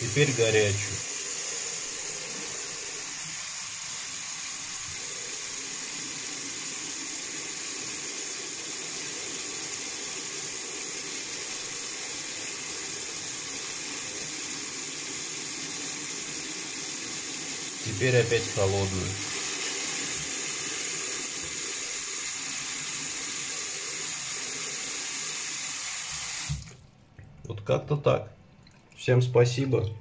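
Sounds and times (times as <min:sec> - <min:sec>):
tap water running into sink: 0:00.0 - 0:27.5, 0:28.5 - 0:30.0.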